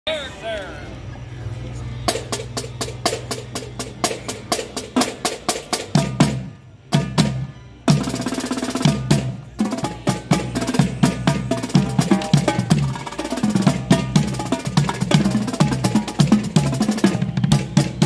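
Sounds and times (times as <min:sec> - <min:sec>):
marching snare and tenor drums: 0:02.1 - 0:18.0.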